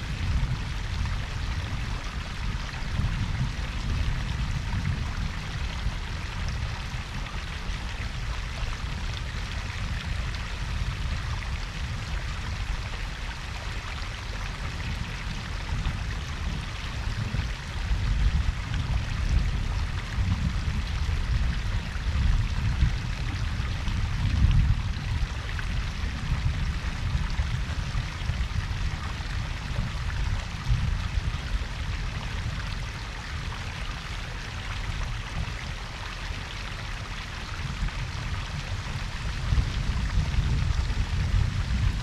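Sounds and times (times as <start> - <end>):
water pouring and trickling: 0.0 - 42.0.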